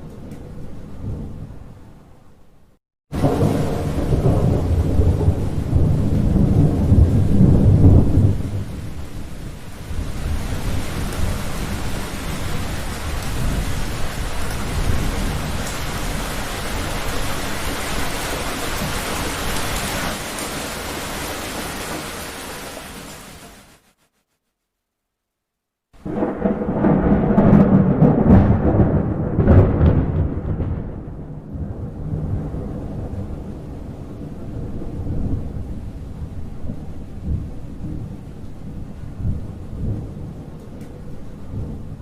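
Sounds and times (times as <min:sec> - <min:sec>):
thunder rumbling: 0:03.1 - 0:23.4, 0:26.0 - 0:42.0
steady rain: 0:03.1 - 0:24.2, 0:26.0 - 0:42.0.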